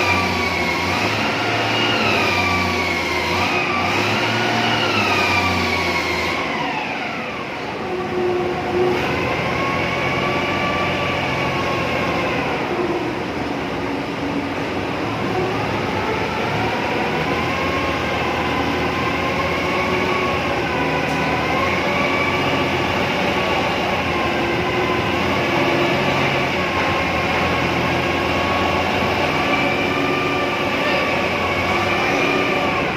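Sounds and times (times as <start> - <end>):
heavy machinery rumbling with whine: 0.0 - 32.9.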